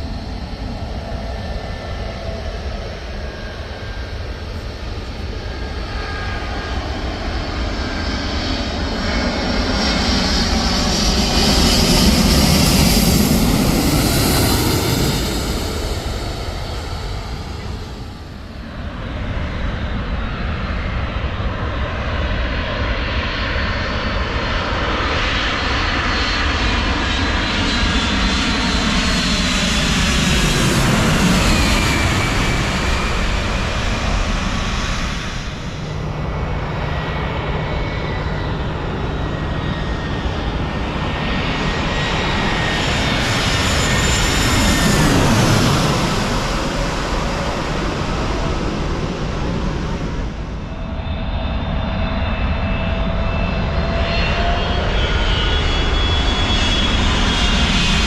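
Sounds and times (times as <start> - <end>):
jet engines roaring overhead: 0.0 - 58.0.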